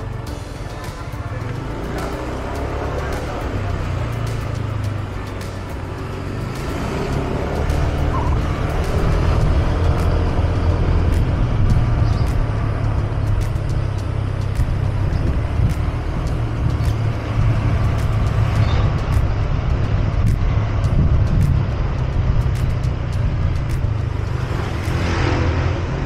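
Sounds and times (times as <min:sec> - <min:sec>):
motorcycle engine running: 0:00.0 - 0:26.0
road noise: 0:00.0 - 0:26.0
wind noise: 0:03.6 - 0:26.0.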